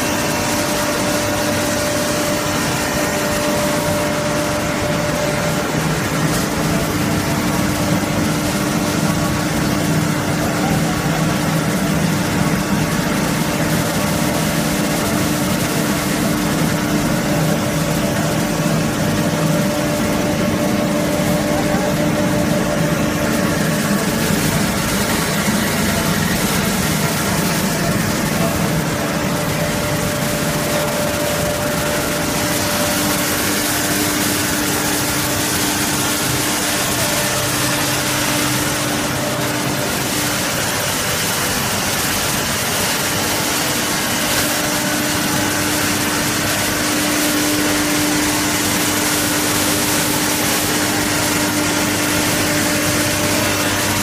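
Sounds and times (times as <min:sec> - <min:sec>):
machinery humming: 0:00.0 - 0:54.0.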